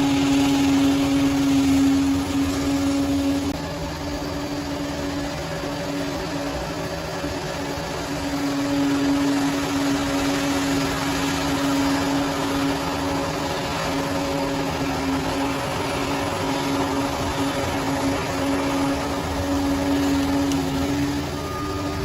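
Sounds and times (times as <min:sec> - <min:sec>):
bulldozer diesel engine running: 0:00.0 - 0:22.0
steady droning tone: 0:00.0 - 0:22.0.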